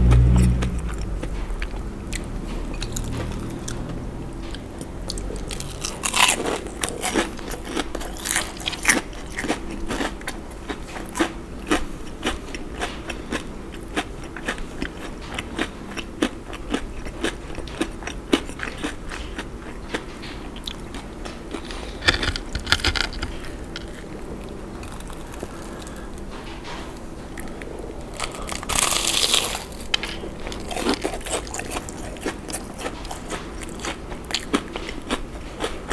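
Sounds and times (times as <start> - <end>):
crispy food crunching: 0.0 - 26.3, 27.3 - 35.9.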